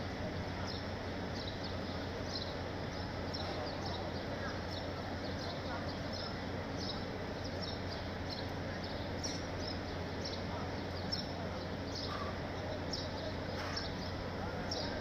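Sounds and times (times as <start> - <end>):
crowd murmur: 0.0 - 15.0
birds chirping: 0.6 - 15.0.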